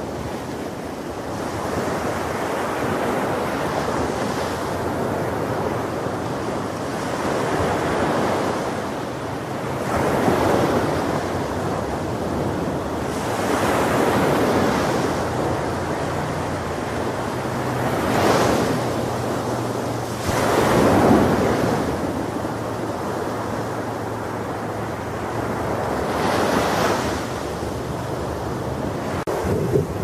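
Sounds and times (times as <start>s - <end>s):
ocean waves crashing: 0.0s - 30.0s
wind buffeting microphone: 0.0s - 30.0s.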